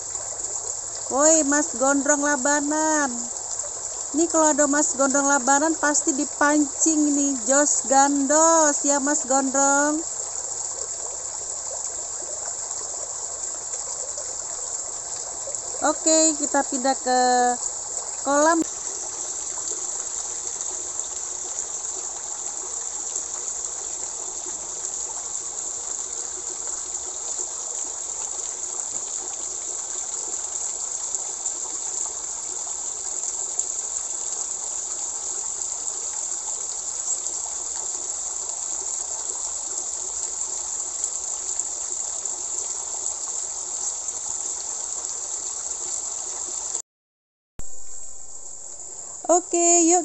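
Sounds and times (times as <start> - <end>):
water flowing into a pond: 0.0 - 46.8, 47.6 - 50.0.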